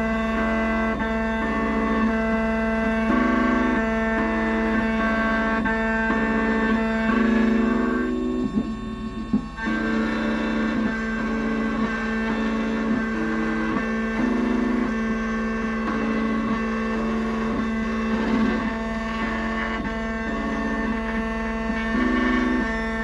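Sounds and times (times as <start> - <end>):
cutter spindle humming: 0.0 - 23.0
stepper motor whining: 0.0 - 23.0.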